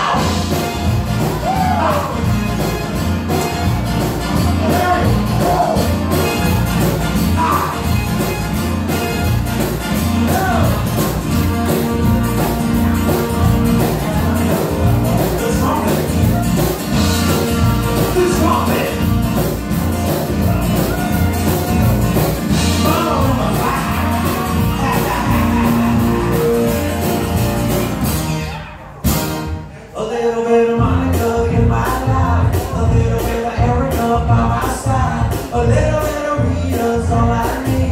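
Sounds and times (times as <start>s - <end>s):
live band playing dance music: 0.0s - 29.9s, 30.8s - 37.9s.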